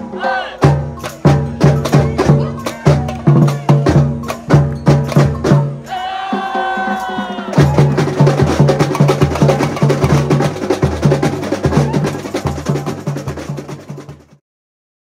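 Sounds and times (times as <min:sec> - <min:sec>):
bass drums beating: 0:00.0 - 0:14.4
snare drums and hand percussion: 0:00.0 - 0:14.4.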